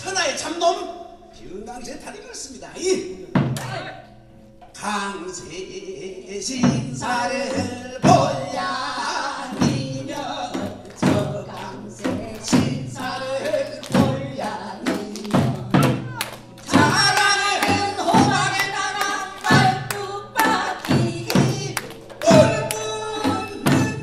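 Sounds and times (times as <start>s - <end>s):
person singing through microphones: 4.7s - 24.0s.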